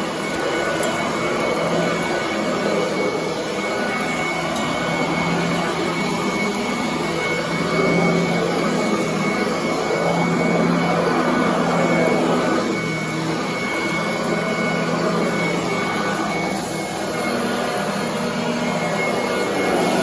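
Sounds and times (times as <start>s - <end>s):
vacuum cleaner running over carpet: 0.0s - 20.0s.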